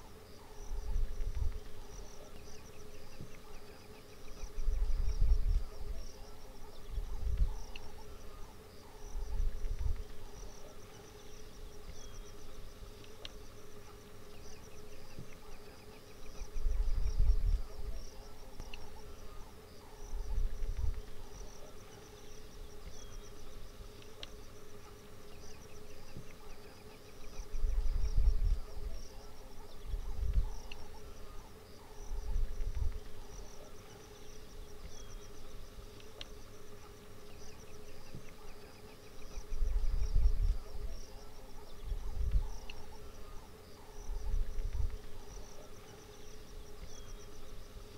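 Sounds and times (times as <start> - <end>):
constant low drone: 0.0 - 47.9
insects buzzing and chirring: 0.0 - 47.9.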